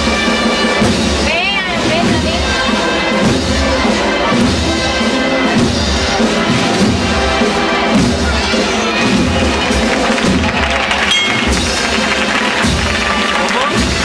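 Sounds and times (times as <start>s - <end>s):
brass band playing a march: 0.0s - 14.0s.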